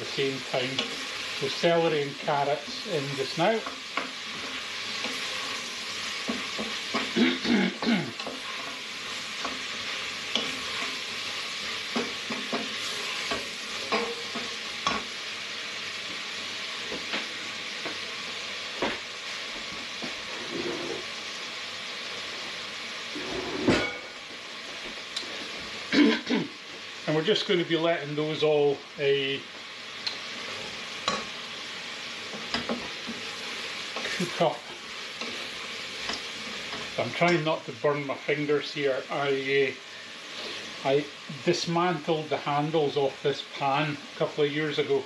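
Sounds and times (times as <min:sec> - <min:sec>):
vegetables sizzling in butter: 0:00.0 - 0:45.0.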